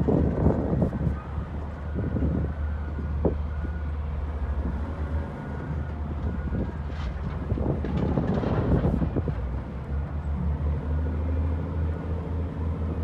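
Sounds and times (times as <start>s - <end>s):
heavy diesel engines droning: 0.0s - 13.0s.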